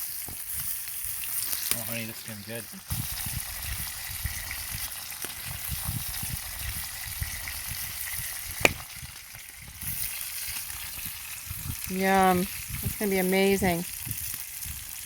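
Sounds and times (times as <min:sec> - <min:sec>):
fish sizzling in a pan: 0:00.0 - 0:15.0.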